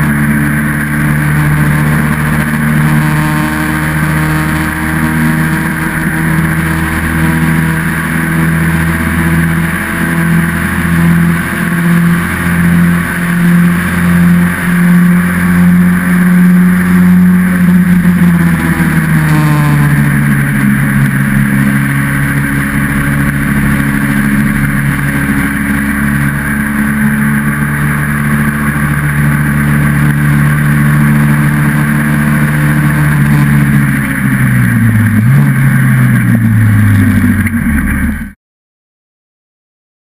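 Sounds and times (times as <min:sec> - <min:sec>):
racing car engine running hard: 0:00.0 - 0:38.4.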